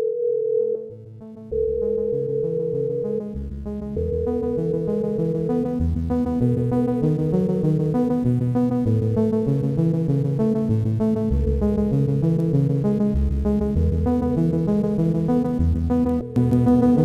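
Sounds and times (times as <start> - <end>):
shifting synth bass line: 1.0 - 17.0.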